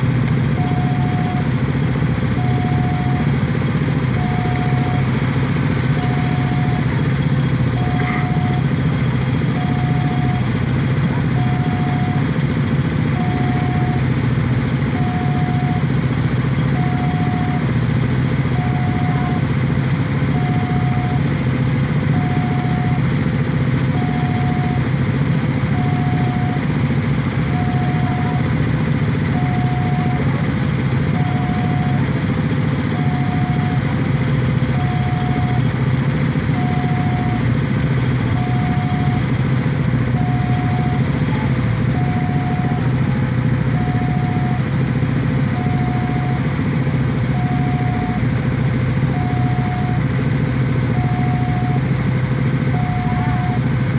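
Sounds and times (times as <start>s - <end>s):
motorcycle engines idling: 0.0s - 53.9s
level crossing alarm tone: 0.5s - 1.7s, 2.3s - 3.4s, 4.1s - 12.4s, 13.1s - 17.8s, 18.4s - 19.6s, 20.2s - 21.4s, 22.0s - 23.2s, 23.8s - 26.7s, 27.4s - 35.8s, 36.4s - 50.2s, 50.9s - 51.9s, 52.6s - 53.7s.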